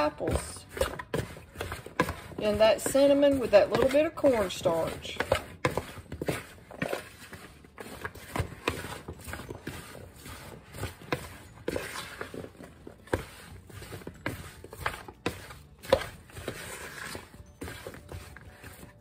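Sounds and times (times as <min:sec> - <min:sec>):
spoon scraping plastic bowl: 0:00.0 - 0:19.0.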